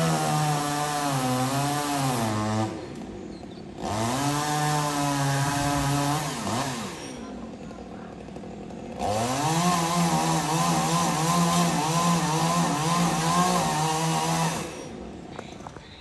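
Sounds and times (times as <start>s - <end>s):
chainsaw revving: 0.0s - 15.7s.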